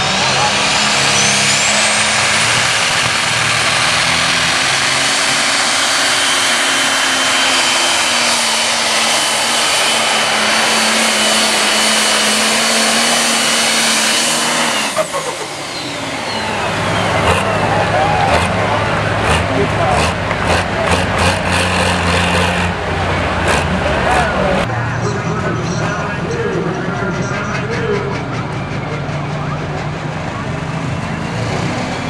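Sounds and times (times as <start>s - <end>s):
diesel engine running flat out: 0.0s - 32.0s
high turbo whine: 0.0s - 32.0s.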